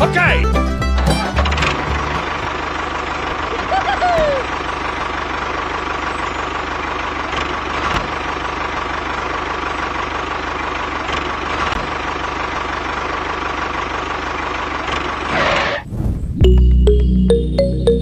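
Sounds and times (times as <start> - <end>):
tractor engine chugging: 0.0 - 15.8.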